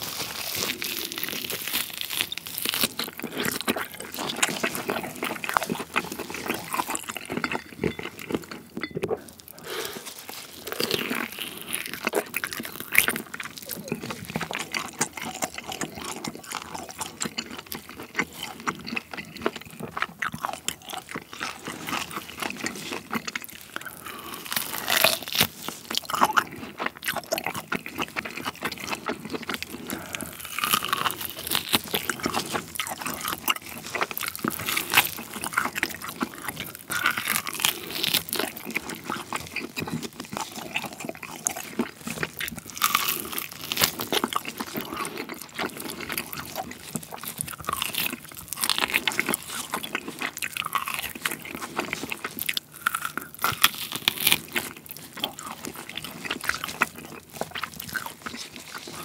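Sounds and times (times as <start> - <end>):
person chewing meat off bone: 0.0 - 59.0.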